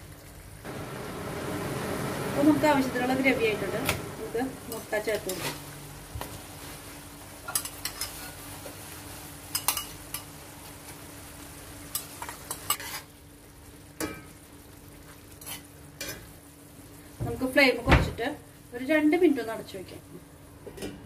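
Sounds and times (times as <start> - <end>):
curry sizzling: 0.0 - 20.7.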